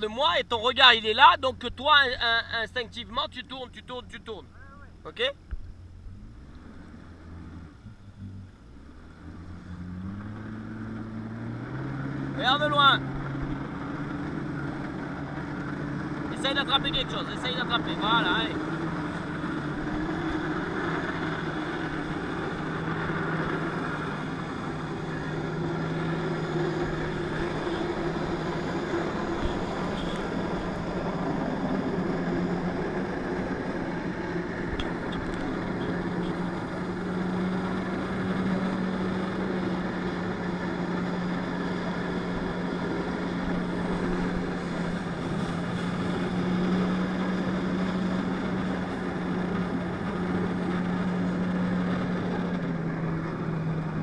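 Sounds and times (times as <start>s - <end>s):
jet ski engine running: 0.0s - 54.0s.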